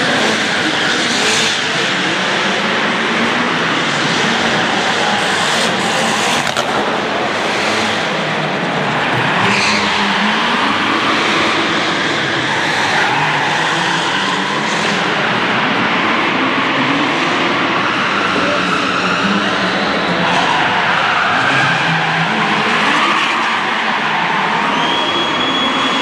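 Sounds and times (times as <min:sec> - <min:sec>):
car engine revving: 0:00.0 - 0:26.0
tyres squealing and skidding: 0:00.0 - 0:26.0.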